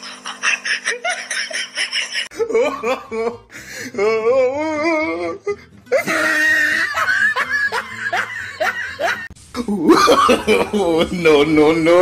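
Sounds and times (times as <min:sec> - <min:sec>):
person laughing: 0:00.0 - 0:03.4, 0:04.8 - 0:11.2.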